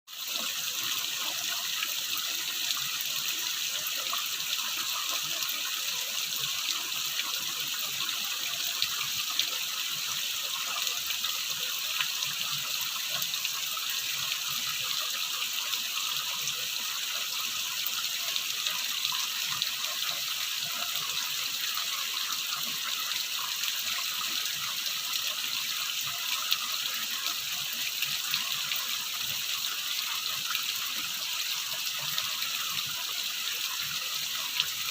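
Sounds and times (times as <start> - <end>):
water running in a stream: 0.1 - 34.9.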